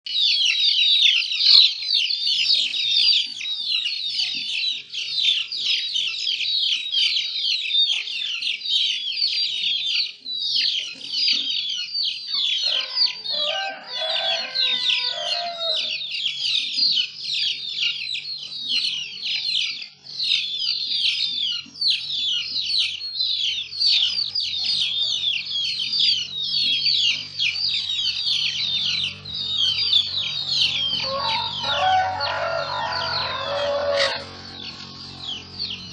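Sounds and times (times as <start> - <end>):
longer lower bird call: 0.1 - 35.9
small birds chirping: 0.1 - 35.9.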